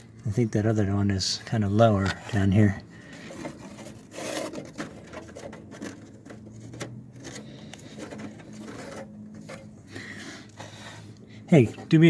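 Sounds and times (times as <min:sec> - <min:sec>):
rubbing and scraping: 0:01.4 - 0:12.0.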